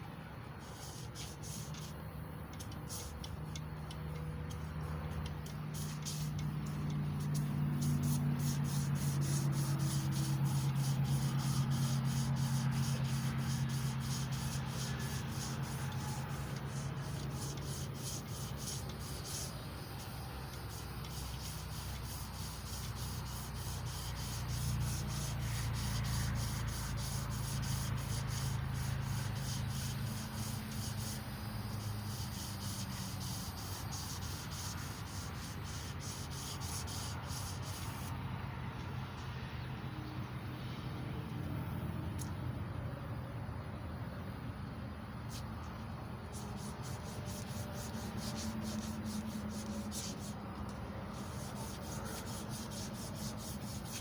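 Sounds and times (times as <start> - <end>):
emery cloth sanding metal: 0.6 - 38.2, 45.3 - 54.0.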